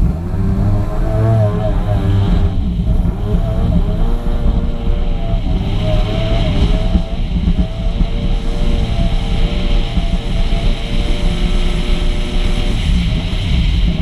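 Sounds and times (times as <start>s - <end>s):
rush of jet wake: 0.0s - 14.0s.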